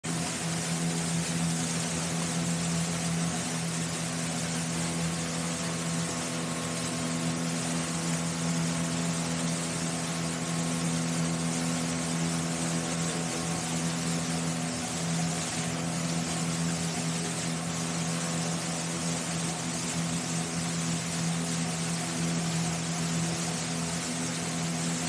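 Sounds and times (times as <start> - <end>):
boat motor humming: 0.0 - 25.0
water rushing in wake: 0.0 - 25.0
wind over hull: 0.1 - 25.0.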